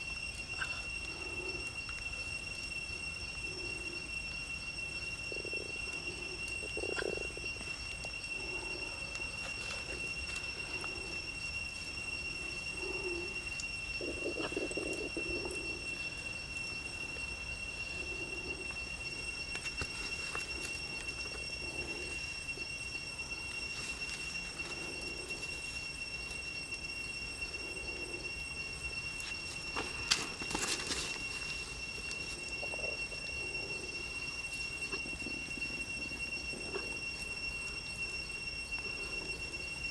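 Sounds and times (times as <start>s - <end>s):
dove cooing: 0.0s - 26.5s, 27.2s - 39.9s
high-pitched whine: 0.0s - 39.9s.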